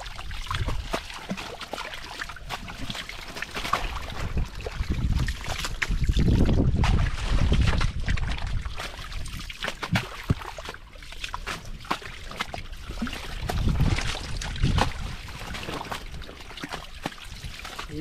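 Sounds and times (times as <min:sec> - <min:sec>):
water sloshing and splashing: 0:00.0 - 0:18.0.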